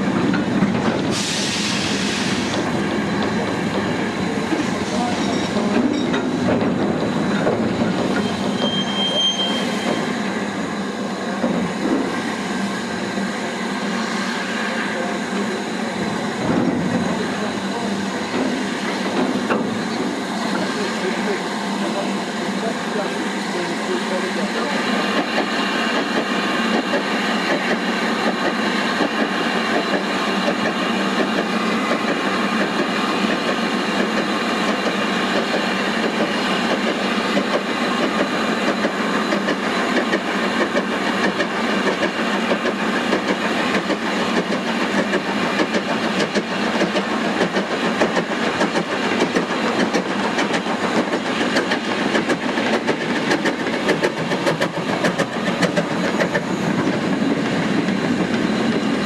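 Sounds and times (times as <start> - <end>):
freight train rushing past: 0.0 - 59.0.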